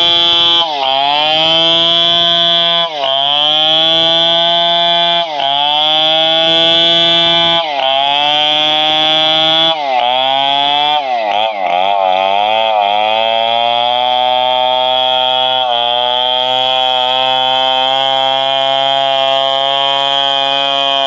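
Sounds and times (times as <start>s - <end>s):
chainsaw sawing wood: 0.0s - 21.0s.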